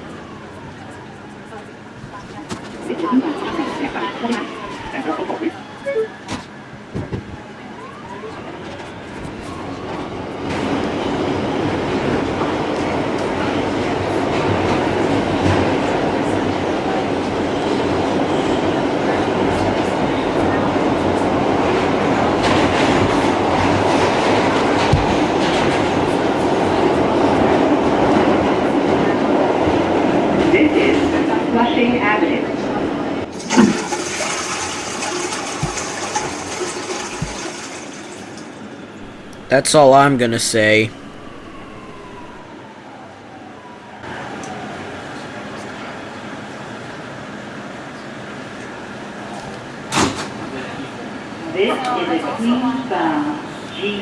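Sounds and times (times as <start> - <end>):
subway train rumbling on rails: 0.0 - 54.0.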